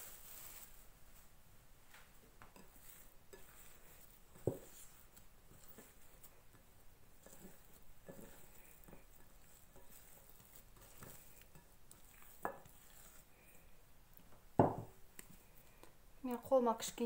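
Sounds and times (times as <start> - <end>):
hands kneading dough: 0.0 - 17.0.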